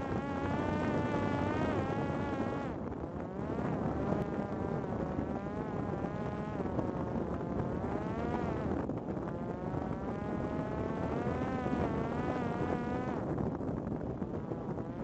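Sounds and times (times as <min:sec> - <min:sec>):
drone propeller buzzing: 0:00.0 - 0:15.0
wind noise rumble: 0:00.0 - 0:15.0.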